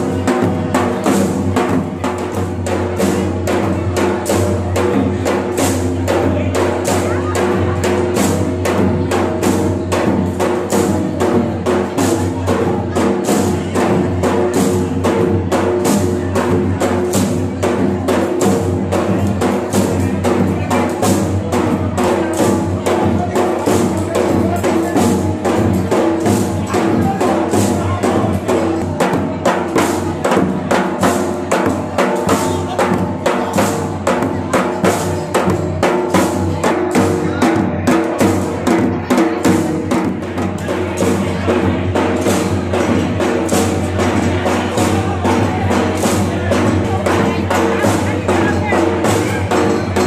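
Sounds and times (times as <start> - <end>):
dhol drums: 0.0 - 50.0.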